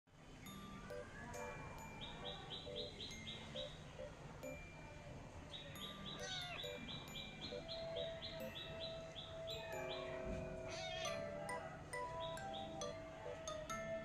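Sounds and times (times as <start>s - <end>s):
looping bird-like chirp: 0.3s - 14.0s
soft chime notes: 0.4s - 14.0s.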